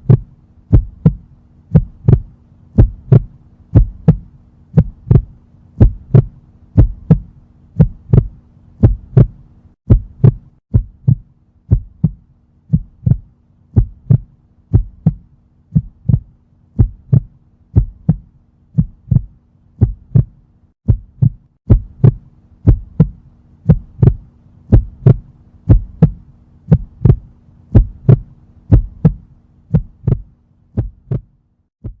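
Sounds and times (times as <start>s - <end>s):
faint steady hum: 0.0s - 32.0s
heartbeat double thump: 0.0s - 32.0s.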